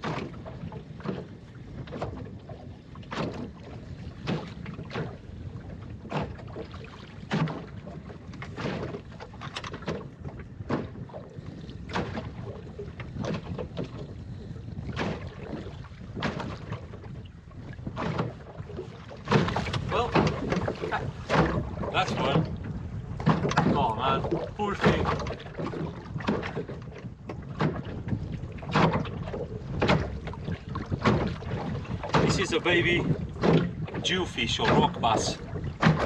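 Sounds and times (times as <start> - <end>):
waves slapping against hull: 0.0 - 36.0
wind and water rushing: 0.0 - 36.0.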